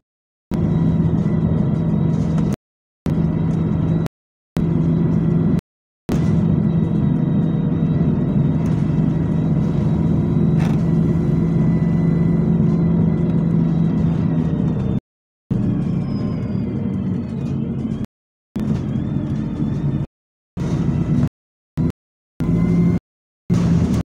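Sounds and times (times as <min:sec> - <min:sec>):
bus engine droning: 0:00.5 - 0:24.0.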